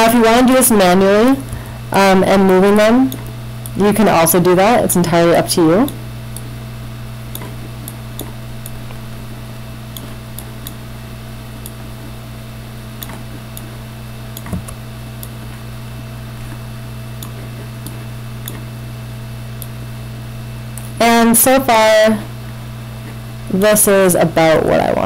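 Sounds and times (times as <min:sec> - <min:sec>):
electrical hum and hiss: 0:00.0 - 0:25.0.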